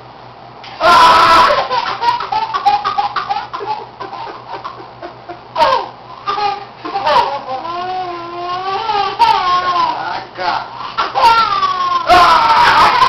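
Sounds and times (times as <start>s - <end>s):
toddler laughing: 0.9s - 10.1s, 11.0s - 13.0s.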